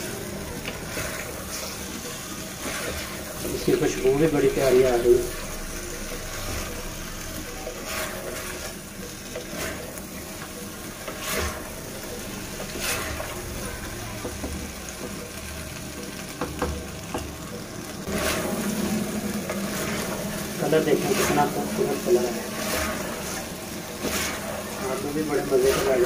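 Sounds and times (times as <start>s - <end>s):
potatoes sizzling in oil: 0.0s - 26.0s
wooden spatula scraping pot: 0.6s - 15.0s, 18.0s - 26.0s.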